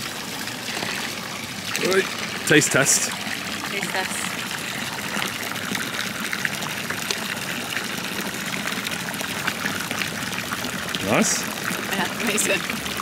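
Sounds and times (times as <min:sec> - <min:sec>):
fountain water splashing into basin: 0:00.0 - 0:13.0.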